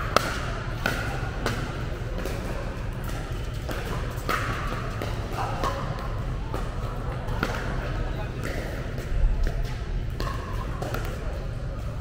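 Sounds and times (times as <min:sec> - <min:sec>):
paddles striking balls: 0:00.0 - 0:07.8, 0:08.4 - 0:11.3
balls bouncing on court: 0:00.0 - 0:11.4
steady low hum: 0:00.0 - 0:12.0.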